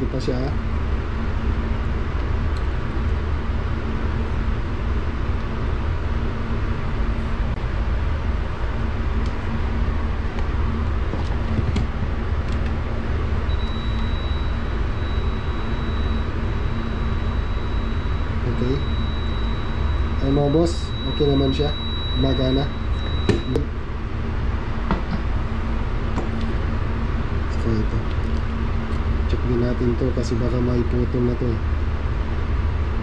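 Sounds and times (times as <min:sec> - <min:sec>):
low rumbling background noise: 0:00.0 - 0:33.0.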